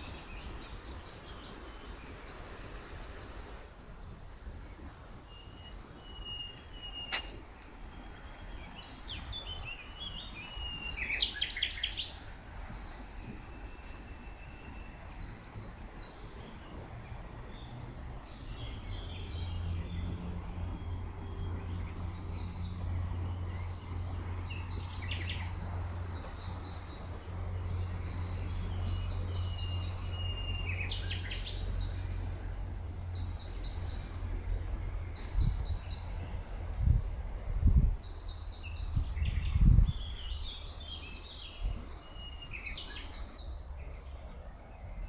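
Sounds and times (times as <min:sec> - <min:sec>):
songbirds chirping: 0:00.0 - 0:45.0.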